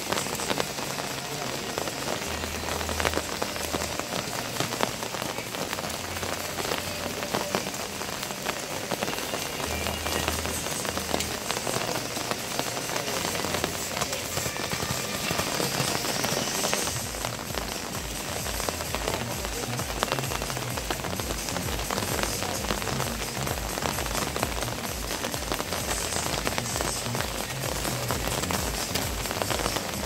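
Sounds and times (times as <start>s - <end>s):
sharp raindrop hits: 0.0s - 30.0s
steady rain falling: 0.0s - 30.0s.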